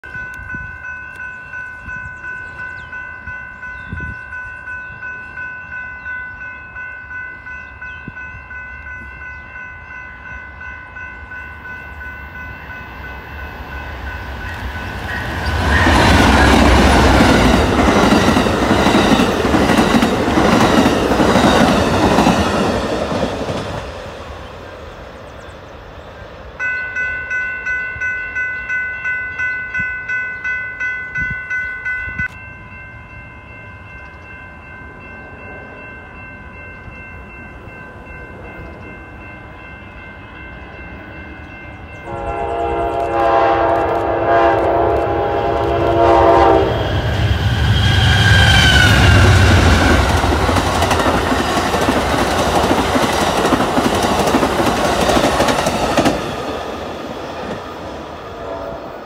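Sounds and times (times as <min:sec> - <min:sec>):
crossing bell ringing: 0:00.0 - 0:24.8, 0:26.6 - 0:59.0
train passing at speed: 0:00.1 - 0:30.4, 0:31.1 - 0:59.0.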